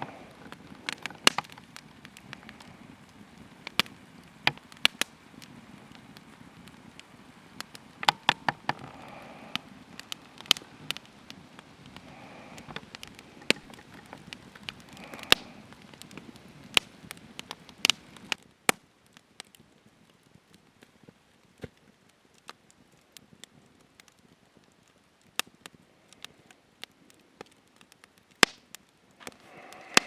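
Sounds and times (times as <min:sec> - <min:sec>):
sharp pops and snaps of fire: 0:00.0 - 0:30.0
wood campfire crackling: 0:00.0 - 0:30.0.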